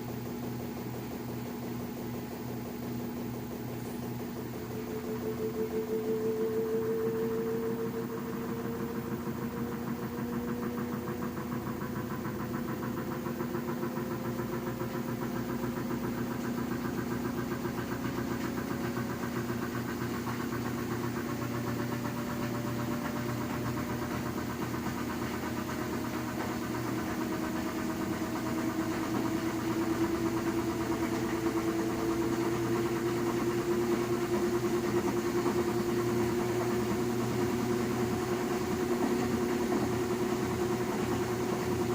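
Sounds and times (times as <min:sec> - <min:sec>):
washing machine humming: 0:00.0 - 0:41.9
rising whine: 0:03.8 - 0:41.9.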